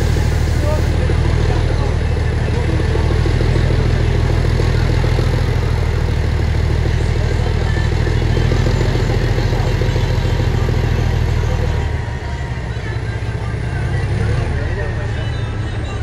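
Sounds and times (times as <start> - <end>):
diesel locomotive engine running: 0.0 - 16.0.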